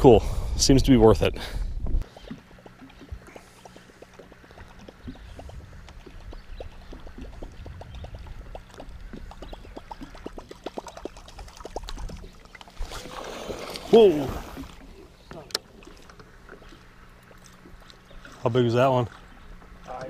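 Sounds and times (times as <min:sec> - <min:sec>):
water lapping against boat hull: 0:02.0 - 0:20.0.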